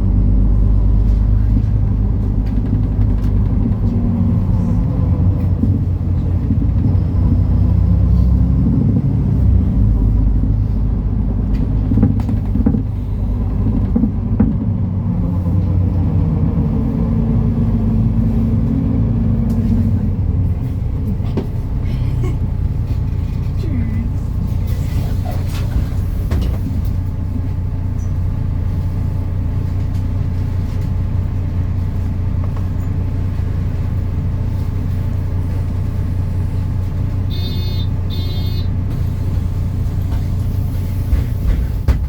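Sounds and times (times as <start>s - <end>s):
bus diesel engine rumbling: 0.0s - 42.0s.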